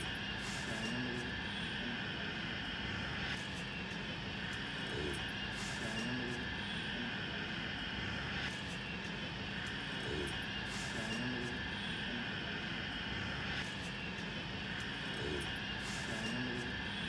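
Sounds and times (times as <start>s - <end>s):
constant hum and hiss: 0.0s - 17.0s.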